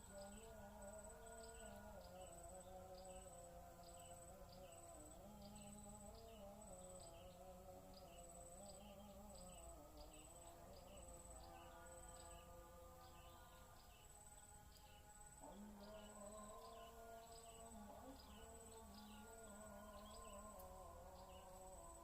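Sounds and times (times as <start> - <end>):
faint insect chirping: 0.0 - 22.0
soft held music tones: 0.0 - 22.0.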